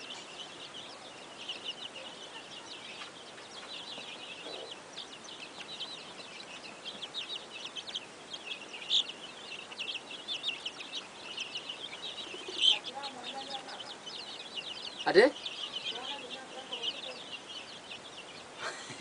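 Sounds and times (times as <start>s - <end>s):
chickens peeping: 0.0s - 19.0s
loud chicken calls: 0.6s - 19.0s.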